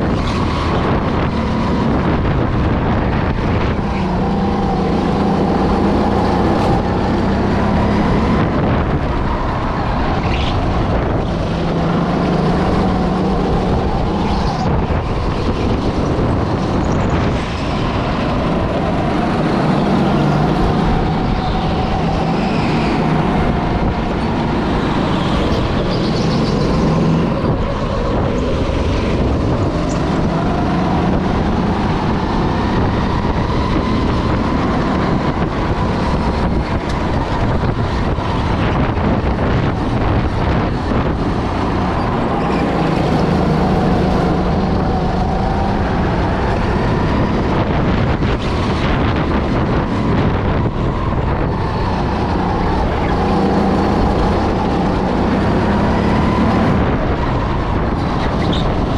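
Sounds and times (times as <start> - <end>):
go-kart engine: 0.0 - 58.9.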